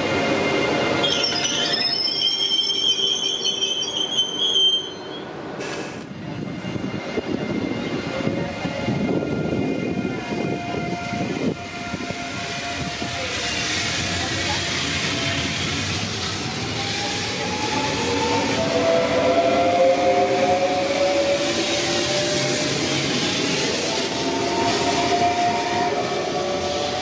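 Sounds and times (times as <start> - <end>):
train wheels rushing on rails: 0.0 - 27.0.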